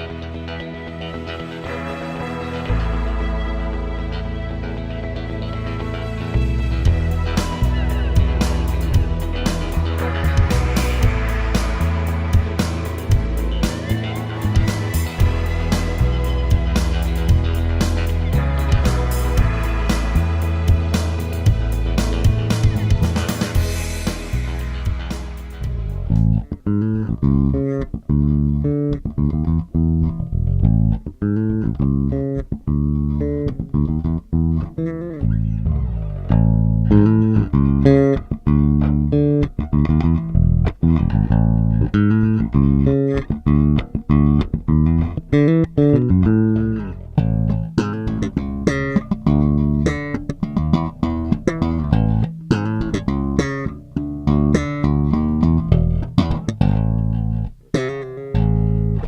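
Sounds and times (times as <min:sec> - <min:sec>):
electric bass plucked notes: 0:00.0 - 0:59.0.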